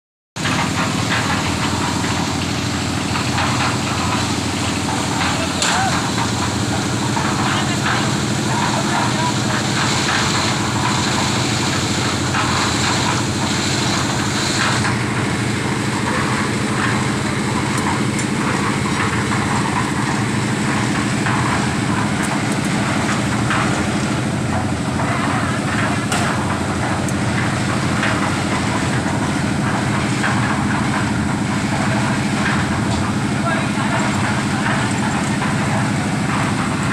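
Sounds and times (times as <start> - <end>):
concrete mixer engine running: 0.4 - 36.9.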